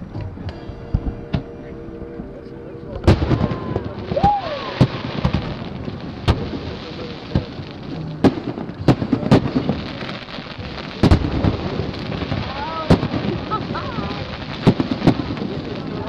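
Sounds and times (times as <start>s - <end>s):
fireworks crackle and rumble: 0.0s - 1.5s, 2.4s - 16.0s
fireworks bangs: 0.0s - 1.7s, 2.8s - 16.0s.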